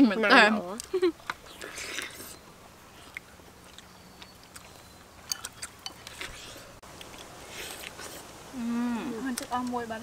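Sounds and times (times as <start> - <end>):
people biting and chewing fruit: 0.7 - 9.8.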